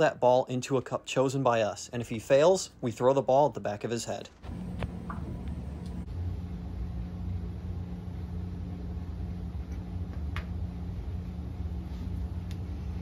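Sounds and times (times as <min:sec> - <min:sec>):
room noise hum and rumble: 0:00.0 - 0:13.0.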